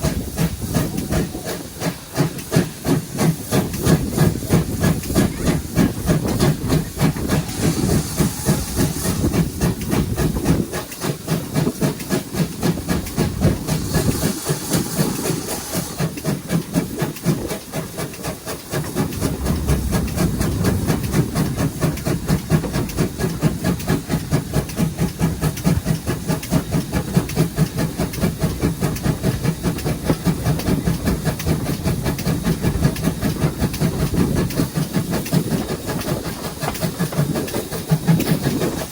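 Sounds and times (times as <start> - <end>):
steam hissing: 0.0 - 38.9
steam locomotive exhaust beats: 0.0 - 38.9.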